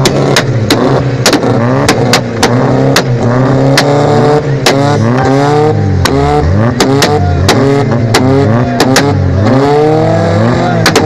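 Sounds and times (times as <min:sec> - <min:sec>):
car engine revving: 0:00.0 - 0:11.0
exhaust bangs: 0:00.0 - 0:11.0.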